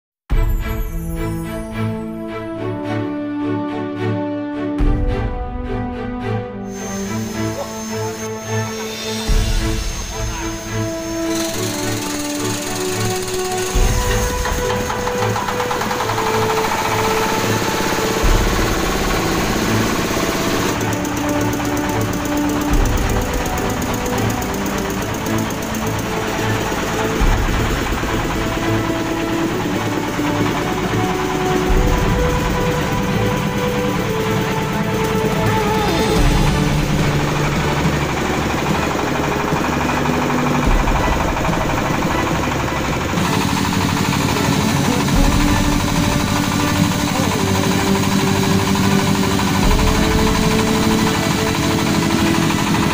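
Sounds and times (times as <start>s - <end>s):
extruder machine drone with chatter: 6.9s - 52.9s
diesel engine running: 7.2s - 52.9s.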